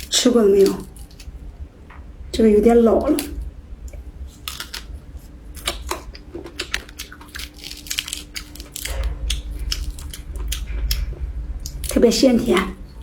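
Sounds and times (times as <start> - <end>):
crunchy chewing crackles: 0.0 - 13.0.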